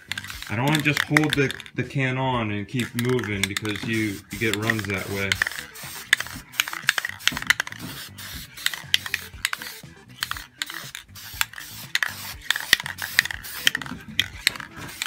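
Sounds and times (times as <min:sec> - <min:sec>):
spray paint hissing: 0:00.0 - 0:01.7, 0:02.8 - 0:15.0
spray can ball rattling: 0:00.0 - 0:01.9, 0:02.7 - 0:15.0.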